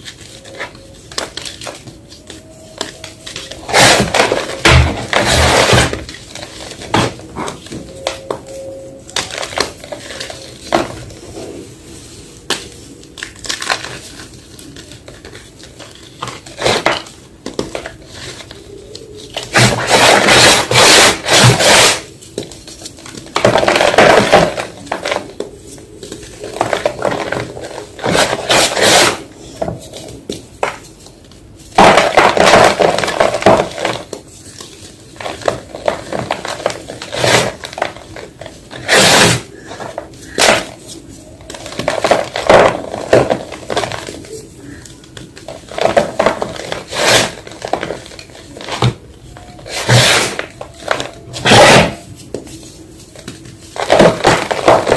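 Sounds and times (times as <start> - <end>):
chalk block crunching and crumbling: 0.0 - 54.9.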